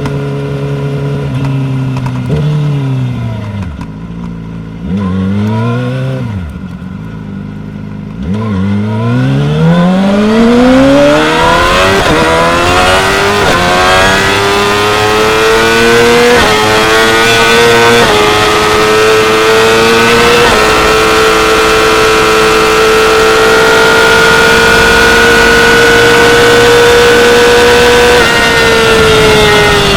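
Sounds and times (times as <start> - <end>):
motorcycle engine at full throttle: 0.0 - 29.9.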